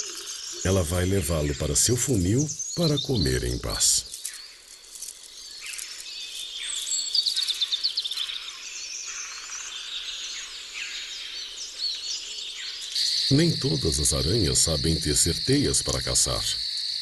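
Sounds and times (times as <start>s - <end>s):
birds chirping: 0.0s - 17.0s
insects trilling: 0.0s - 17.0s.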